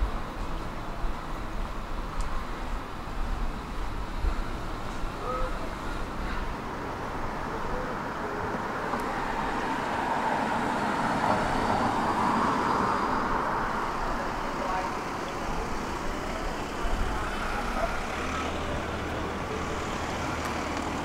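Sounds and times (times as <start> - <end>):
passing vehicle: 0.0 - 21.0
street traffic noise: 0.0 - 21.0.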